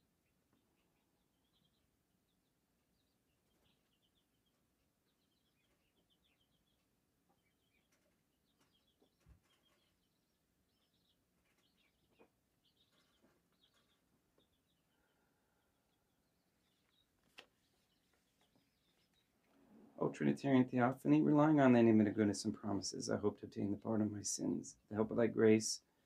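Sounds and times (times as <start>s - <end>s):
faint bird chirping: 0.0s - 26.0s.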